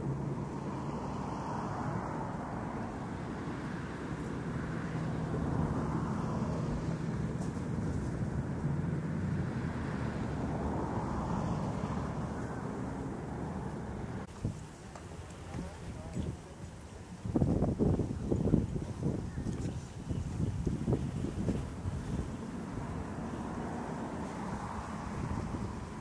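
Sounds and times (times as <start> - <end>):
outboard motors running: 2.1 - 26.0.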